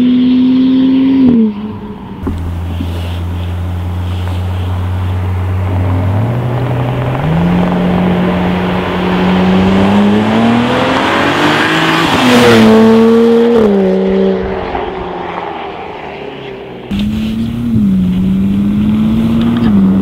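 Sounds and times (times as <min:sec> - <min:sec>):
car engine accelerating past: 0:00.0 - 0:20.0.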